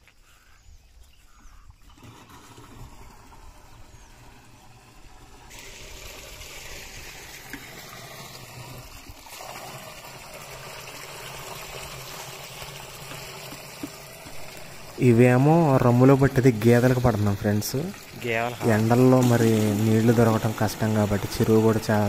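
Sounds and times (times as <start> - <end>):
water gushing into plastic drum: 1.8 - 22.0.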